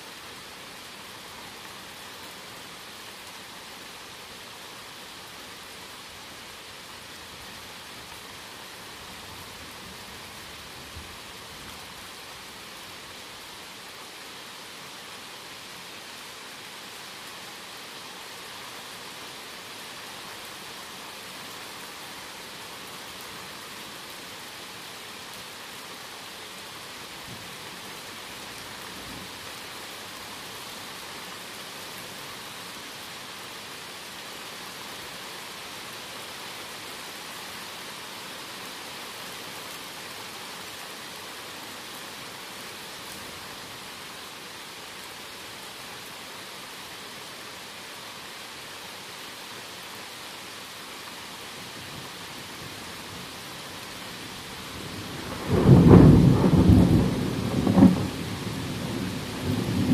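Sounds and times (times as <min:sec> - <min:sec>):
steady rain in a forest: 0:00.0 - 0:59.9.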